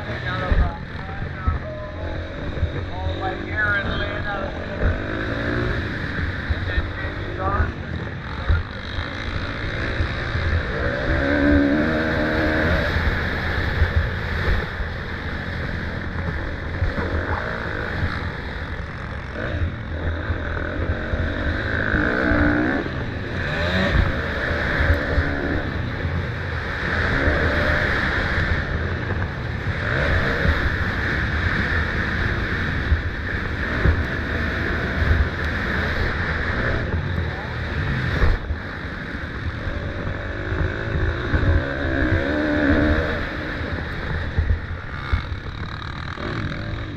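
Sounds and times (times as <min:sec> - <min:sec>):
constant low rumble: 0:00.0 - 0:46.9
dirt bike engines revving: 0:00.0 - 0:46.9.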